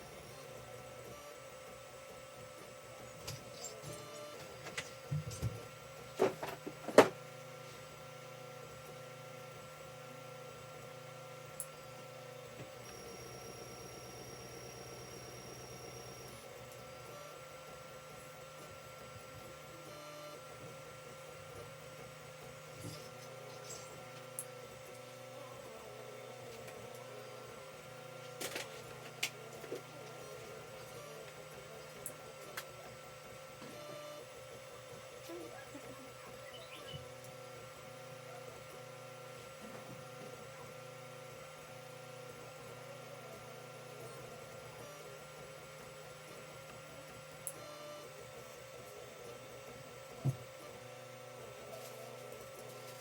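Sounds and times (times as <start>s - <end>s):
printer motor whine: 0.0s - 53.0s.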